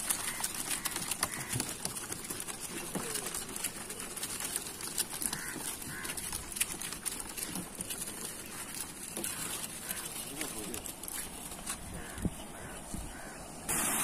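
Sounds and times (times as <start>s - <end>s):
faint animal calls: 0.0s - 2.2s, 3.1s - 10.8s, 11.8s - 13.5s
outdoor background noise: 0.0s - 14.0s.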